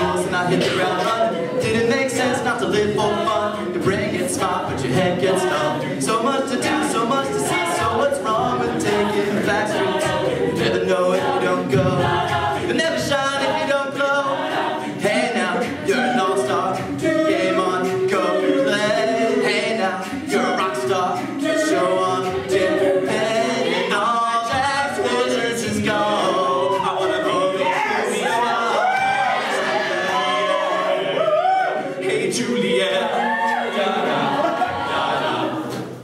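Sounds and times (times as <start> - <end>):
a cappella group singing: 0.0 - 36.0.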